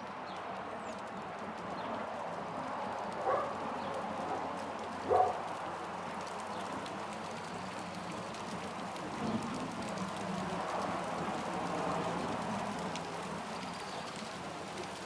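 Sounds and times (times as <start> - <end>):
rain pattering on street: 0.0 - 15.0.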